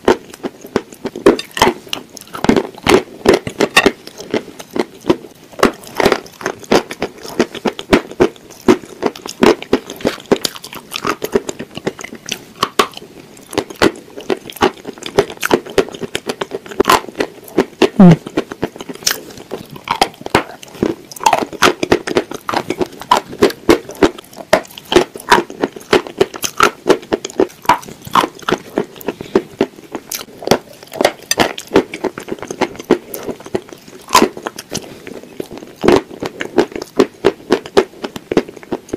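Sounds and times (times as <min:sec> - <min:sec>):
chewing mouth clicks and smacks: 0:00.3 - 0:38.9.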